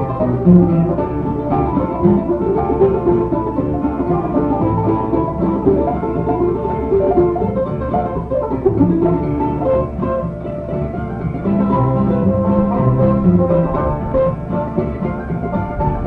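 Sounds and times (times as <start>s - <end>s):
banjo picking: 0.0s - 16.0s
bluegrass band playing: 0.0s - 16.0s.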